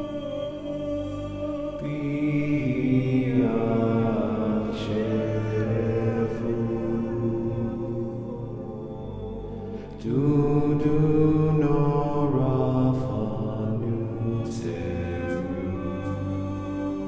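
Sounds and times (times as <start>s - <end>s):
chant-like singing over held notes: 0.0s - 17.0s.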